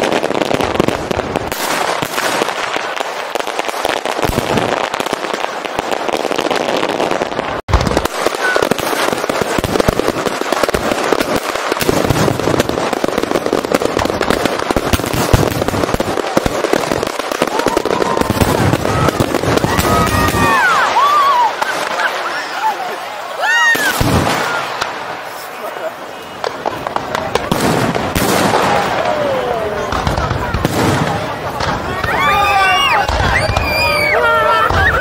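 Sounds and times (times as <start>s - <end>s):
fireworks low booms: 0.0s - 22.6s, 23.2s - 35.0s
fireworks crackling: 0.0s - 35.0s.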